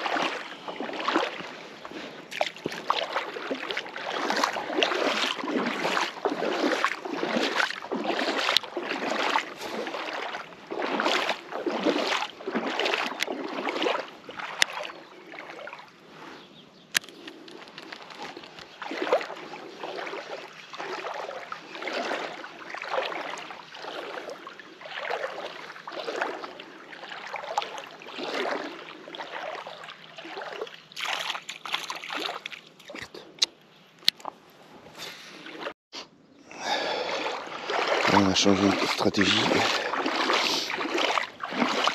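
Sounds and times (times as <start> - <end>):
water sloshing and lapping: 0.0 - 35.8, 36.5 - 41.9.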